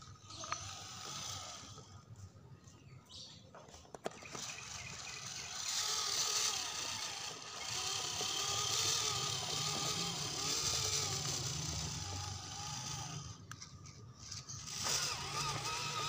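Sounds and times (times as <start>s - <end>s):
electric motor whining: 0.0s - 2.3s, 4.1s - 16.0s.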